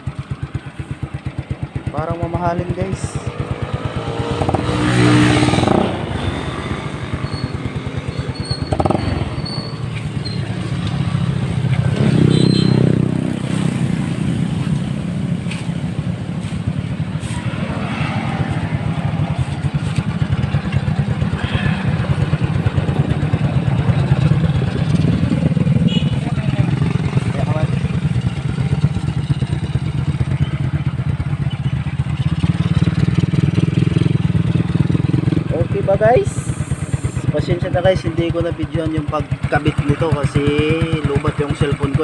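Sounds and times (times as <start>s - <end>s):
scooter engine idling and revving: 0.0s - 42.0s.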